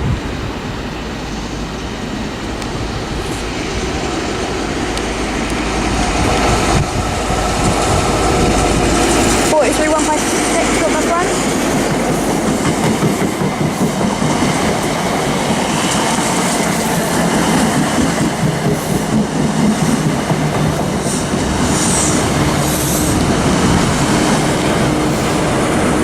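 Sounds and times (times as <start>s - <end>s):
train wheels rumbling on rails: 0.0s - 26.0s
wheels clacking over rail joints: 3.4s - 26.0s.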